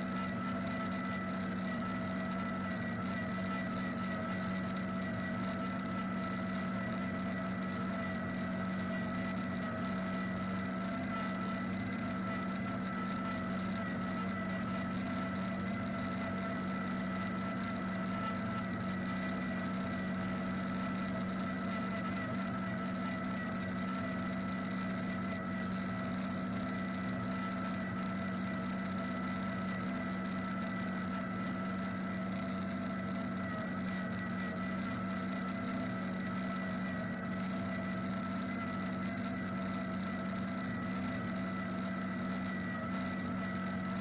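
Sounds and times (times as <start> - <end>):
diesel tractor engine drone: 0.0 - 44.0
harvester high whine: 0.0 - 44.0.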